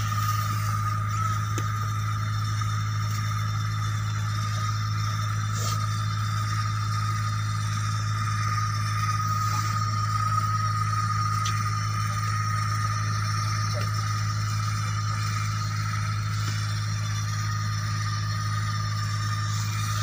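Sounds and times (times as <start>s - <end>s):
thin high whine: 0.0s - 20.0s
welding machine motor hum: 0.0s - 20.0s.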